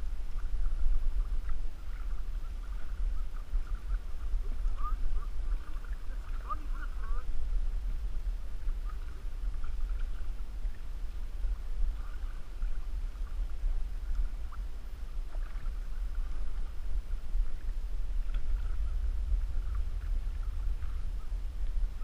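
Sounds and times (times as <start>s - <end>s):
paddle splashes: 0.0s - 22.0s
water on canoe hull: 0.0s - 22.0s
wind on microphone: 0.0s - 22.0s.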